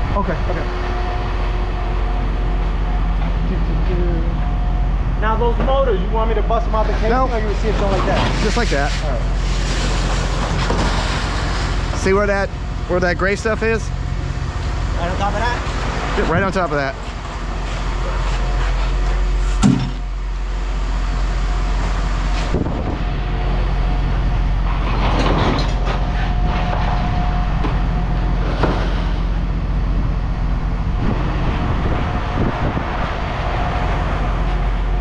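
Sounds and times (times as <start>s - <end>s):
low machine rumble: 0.0s - 35.0s.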